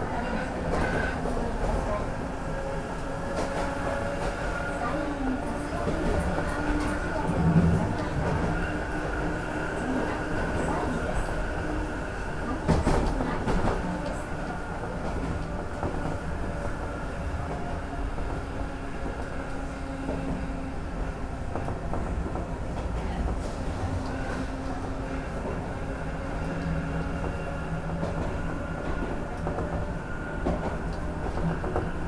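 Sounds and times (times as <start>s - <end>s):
tram motor hum and wheel rumble: 0.0s - 32.0s
wheels clacking on rails: 0.2s - 32.0s.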